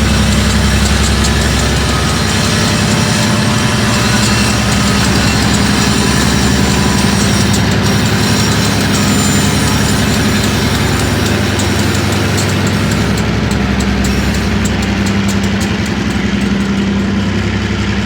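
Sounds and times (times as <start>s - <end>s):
diesel locomotive engine running: 0.0s - 18.0s.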